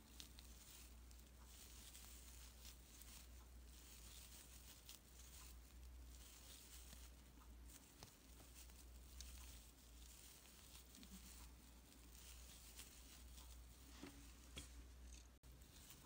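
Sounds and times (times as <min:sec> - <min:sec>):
crochet hook pulling yarn: 0:00.0 - 0:16.0
low steady hum: 0:00.0 - 0:16.0.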